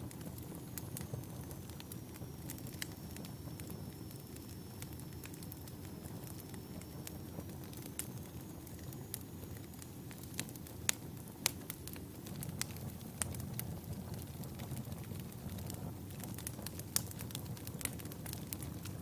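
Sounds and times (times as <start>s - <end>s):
fire flames rumbling: 0.0s - 19.0s
logs crackling and popping: 0.0s - 19.0s.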